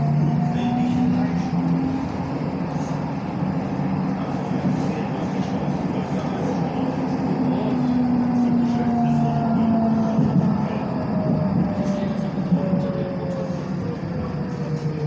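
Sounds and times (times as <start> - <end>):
traction motor whine: 0.0 - 15.0
tram wheels rolling on rails: 0.0 - 15.0.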